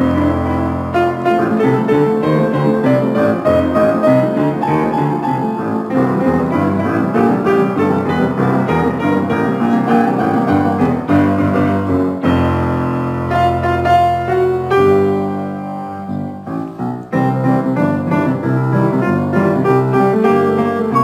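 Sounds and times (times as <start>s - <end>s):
grand piano playing: 0.0s - 21.0s.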